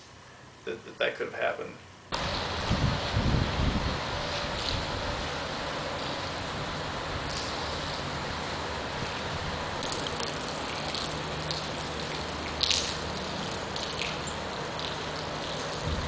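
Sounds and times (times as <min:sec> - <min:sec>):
running water hiss: 0:02.1 - 0:16.0
water drips and splashes: 0:02.1 - 0:16.0.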